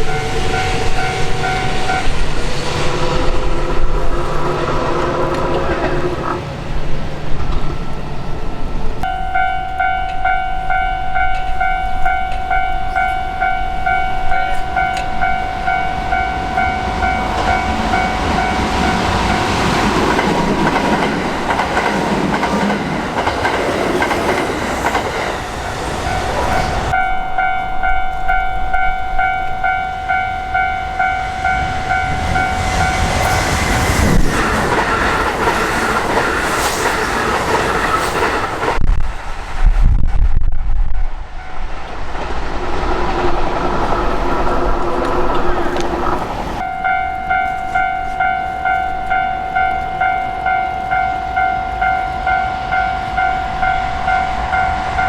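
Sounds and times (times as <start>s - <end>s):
level-crossing warning bell: 0.0s - 6.1s, 6.7s - 38.8s, 44.4s - 55.0s
train passing: 0.0s - 55.0s.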